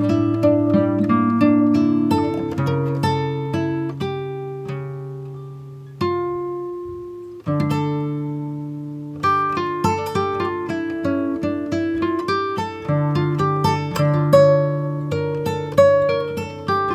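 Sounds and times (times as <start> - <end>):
plucked string instrument music: 0.0 - 16.9.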